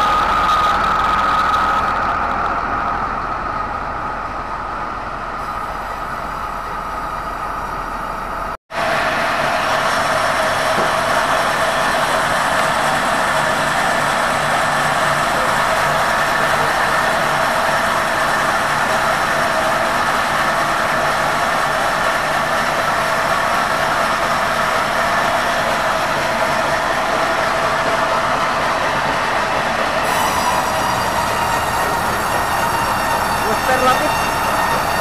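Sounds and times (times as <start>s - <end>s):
band saw machinery drone: 0.0s - 35.0s.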